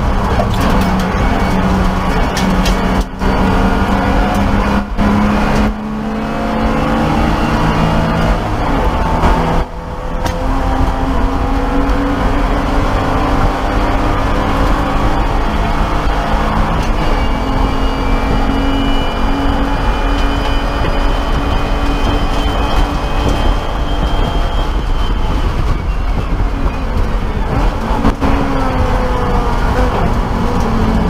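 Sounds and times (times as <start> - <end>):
high whine: 0.0 - 31.0
race car engine at high revs: 0.0 - 31.0.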